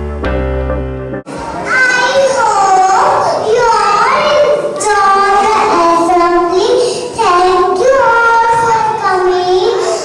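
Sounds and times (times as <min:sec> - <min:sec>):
children singing: 0:01.6 - 0:10.0.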